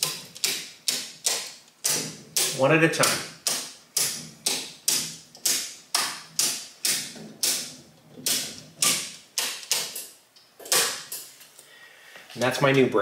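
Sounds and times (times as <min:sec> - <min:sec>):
circuit breakers clicking: 0:00.0 - 0:11.3.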